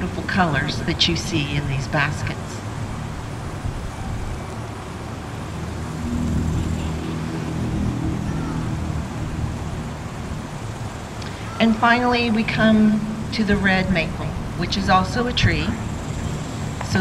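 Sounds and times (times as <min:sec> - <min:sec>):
road traffic rumble: 0:00.0 - 0:17.0
vehicle engine: 0:00.0 - 0:17.0.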